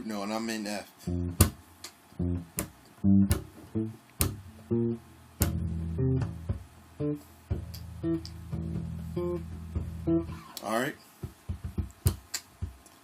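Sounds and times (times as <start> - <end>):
thumps on muted bass strings: 1.1 - 1.6, 2.2 - 10.6, 11.2 - 12.8.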